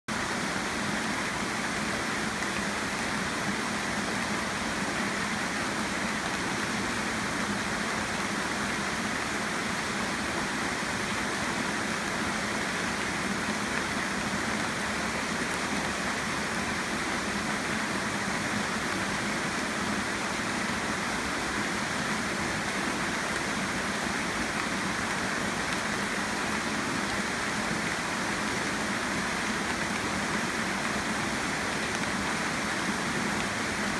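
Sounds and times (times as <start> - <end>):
rain falling on foliage: 0.1 - 33.9.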